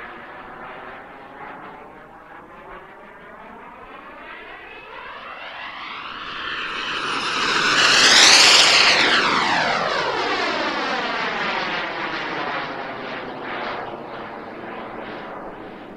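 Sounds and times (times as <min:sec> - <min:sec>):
model jet turbine whine: 0:00.0 - 0:15.9.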